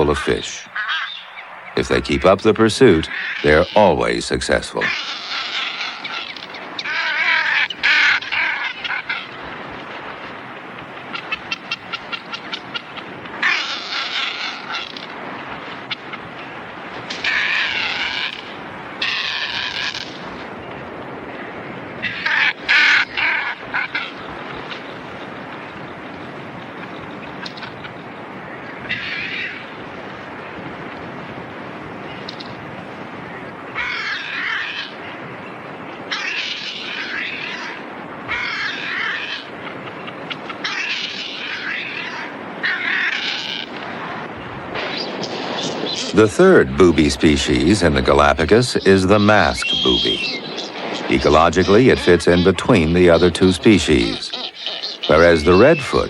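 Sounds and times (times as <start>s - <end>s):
seabird calls: 0.0s - 56.0s
steady background hiss: 0.0s - 56.0s.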